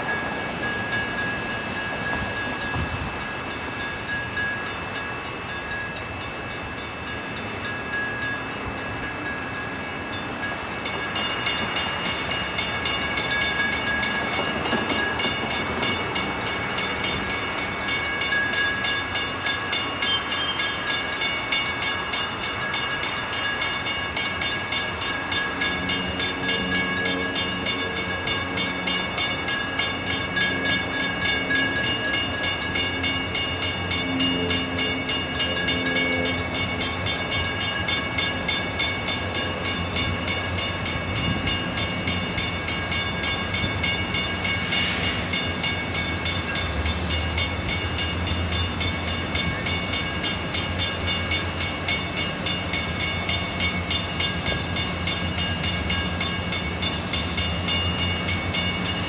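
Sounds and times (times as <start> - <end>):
oncoming train rumble: 0.0 - 59.0
railroad crossing bells ringing: 0.0 - 59.0.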